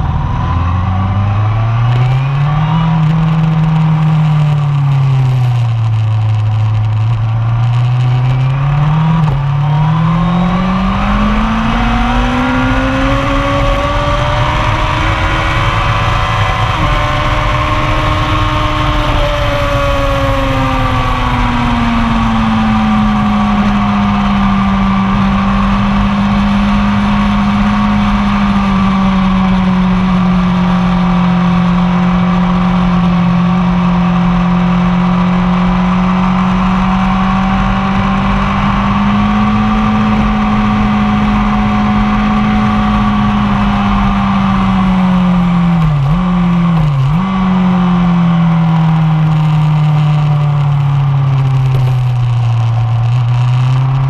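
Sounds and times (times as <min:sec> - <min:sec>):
motorcycle engine revving high: 0:00.0 - 0:54.0.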